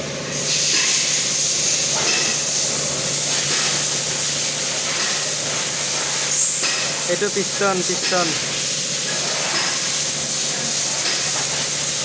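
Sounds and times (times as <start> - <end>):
loud steady hiss: 0.0 - 12.0.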